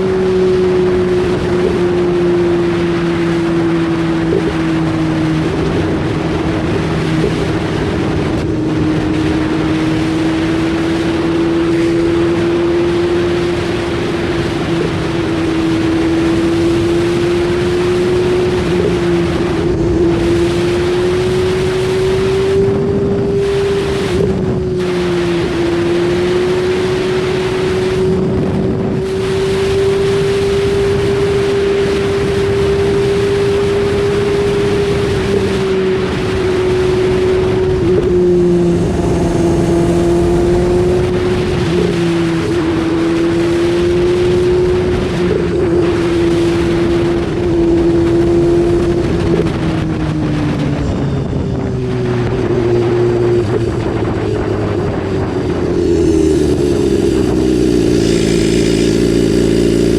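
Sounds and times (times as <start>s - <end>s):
motorcycle engine at high revs: 0.0s - 59.9s
wind rushing over camera: 0.0s - 59.9s.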